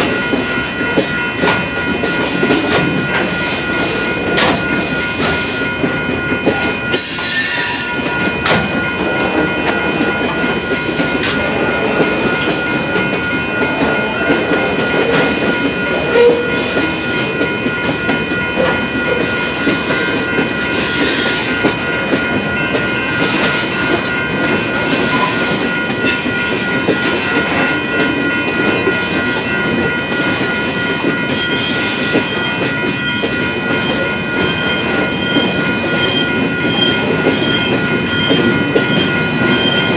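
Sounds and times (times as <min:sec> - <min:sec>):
crossing warning bell ringing: 0:00.0 - 0:39.9.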